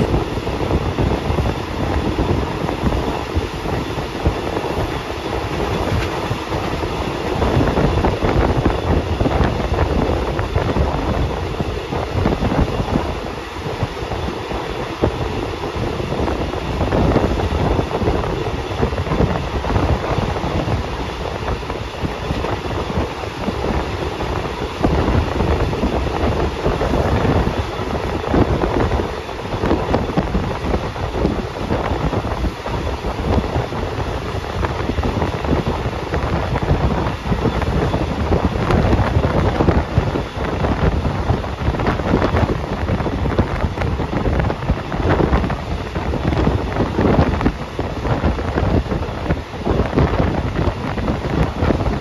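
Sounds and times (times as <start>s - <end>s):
train wheels rumbling on rails: 0.0s - 52.0s
wind on the microphone: 0.0s - 52.0s.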